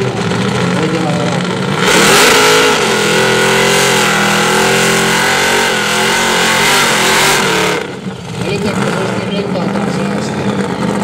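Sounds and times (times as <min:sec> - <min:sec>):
engine at high revs: 0:00.0 - 0:11.0.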